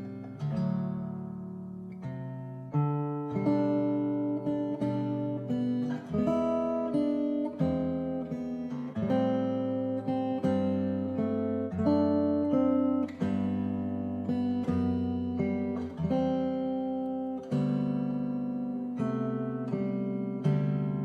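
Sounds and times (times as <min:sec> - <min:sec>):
strummed acoustic guitar chords: 0:00.0 - 0:21.0.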